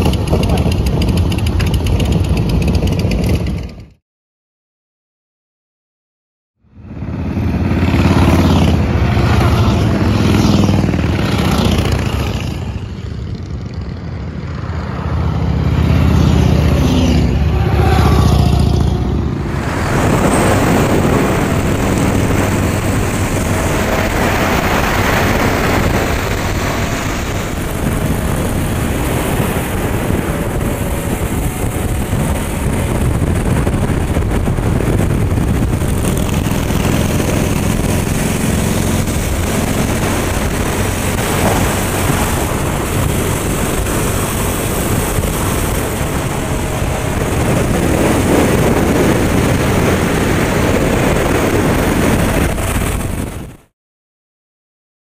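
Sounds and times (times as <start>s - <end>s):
motorcycles passing by: 0.0s - 3.9s, 6.8s - 53.4s
wind noise: 0.0s - 3.9s, 6.8s - 53.7s.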